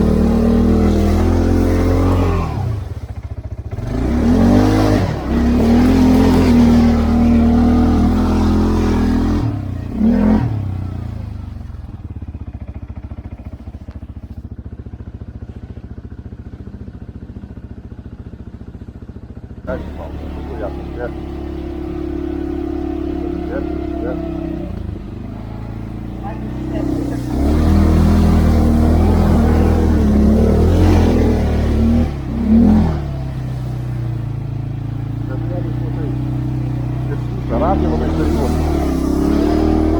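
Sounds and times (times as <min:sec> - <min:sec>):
quad bike engine: 0:00.0 - 0:39.9.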